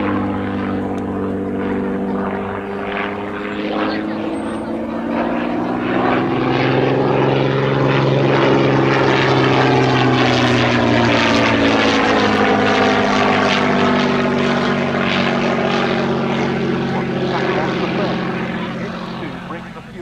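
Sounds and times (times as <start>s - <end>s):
propeller plane engine in flight: 0.0s - 20.0s.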